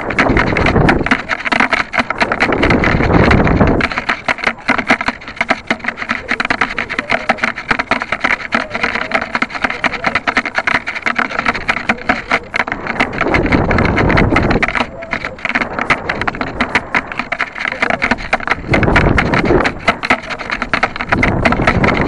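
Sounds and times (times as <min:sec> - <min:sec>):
crackling rattle: 0:00.0 - 0:22.0
low rumbling gusts: 0:00.0 - 0:22.0
wind buffeting microphone: 0:00.0 - 0:22.0.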